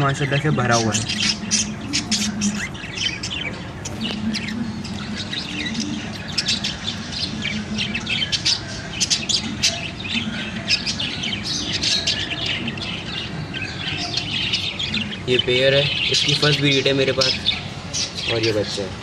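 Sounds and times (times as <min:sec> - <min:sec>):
chicks chirping: 0:00.0 - 0:19.0.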